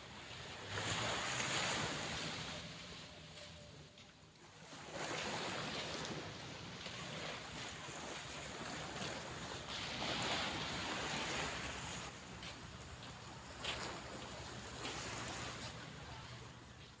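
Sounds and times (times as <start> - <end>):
waves washing onto shore: 0.0 - 17.0.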